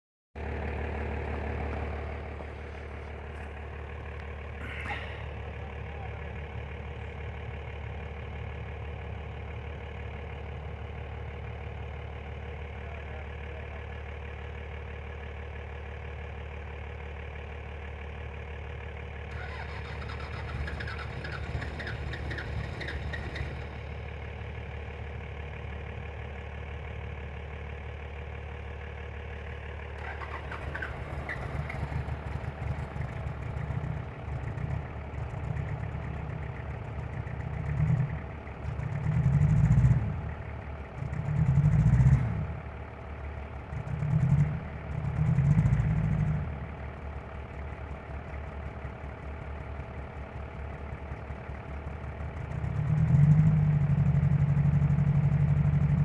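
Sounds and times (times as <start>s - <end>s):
uneven engine noise: 0.4s - 14.0s, 19.2s - 56.0s
engine idling: 0.4s - 56.0s.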